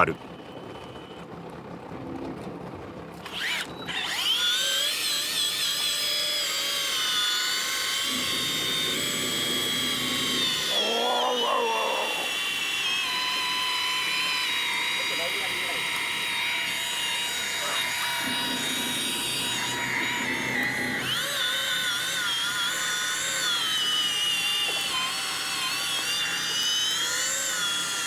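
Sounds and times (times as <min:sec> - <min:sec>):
fishing reel motor whine: 0:03.2 - 0:28.0.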